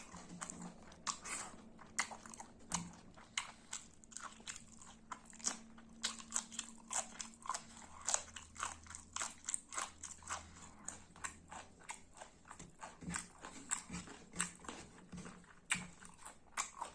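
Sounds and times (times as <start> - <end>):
person chewing food: 0.0 - 16.9.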